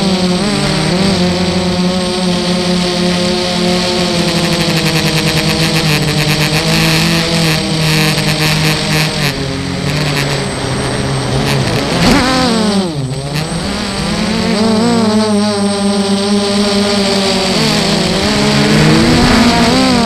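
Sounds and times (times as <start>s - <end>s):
drone motors and propellers whining: 0.0s - 20.0s.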